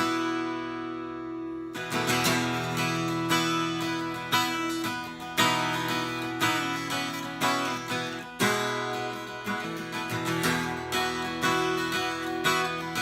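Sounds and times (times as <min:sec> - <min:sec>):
acoustic guitar strummed chords: 0:00.0 - 0:13.0.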